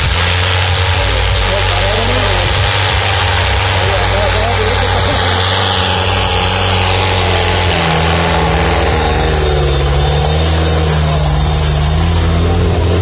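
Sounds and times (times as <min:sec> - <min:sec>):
diesel tractor engine under load: 0:00.0 - 0:13.0.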